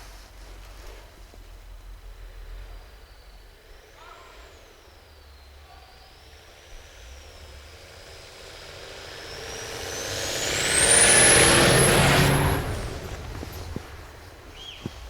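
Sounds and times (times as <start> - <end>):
off-road vehicle engine passing: 0.1 - 15.0
high whine rising in pitch: 2.0 - 15.0.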